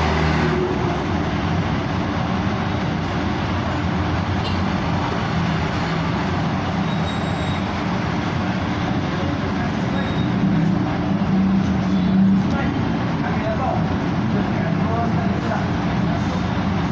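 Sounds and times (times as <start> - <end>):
cars passing: 0.0 - 16.9
motorbikes passing: 0.0 - 16.9.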